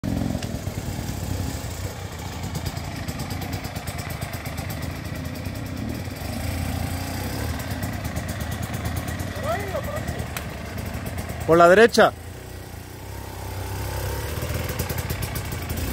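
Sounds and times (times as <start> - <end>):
dirt bike engine droning: 0.0 - 15.9.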